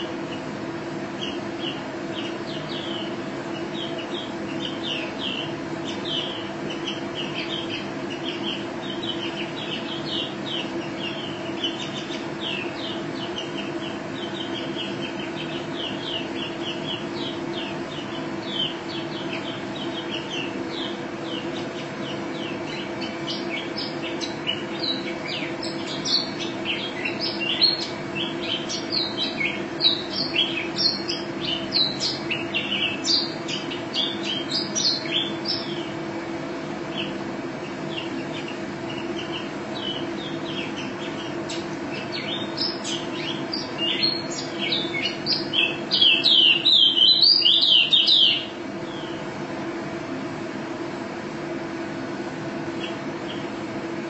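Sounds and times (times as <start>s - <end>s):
bird chirping and trilling: 0.0s - 36.1s, 36.8s - 49.3s, 52.7s - 53.6s.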